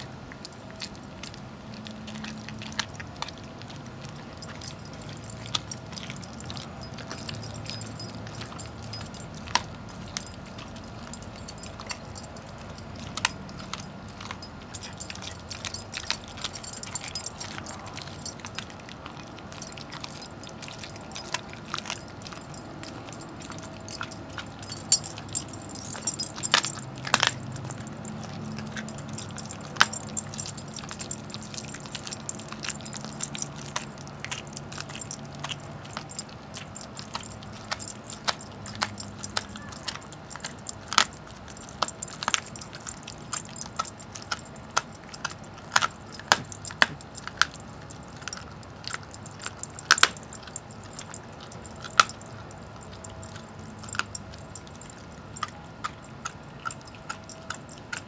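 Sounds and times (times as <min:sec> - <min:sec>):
dog teeth crunching bone: 0:00.0 - 0:58.0
collar tags clinking: 0:00.2 - 0:58.0.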